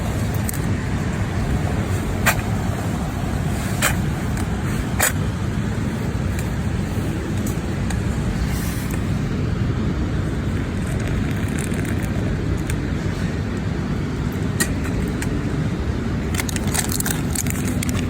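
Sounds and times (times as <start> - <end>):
campfire low rumble: 0.0 - 18.0.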